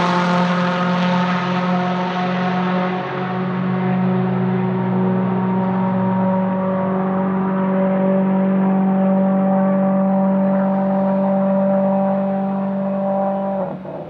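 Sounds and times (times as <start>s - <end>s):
race car engine droning: 0.0s - 14.0s.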